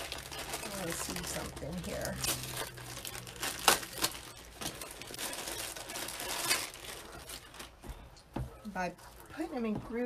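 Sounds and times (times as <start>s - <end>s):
plastic mesh crinkling: 0.0s - 8.1s.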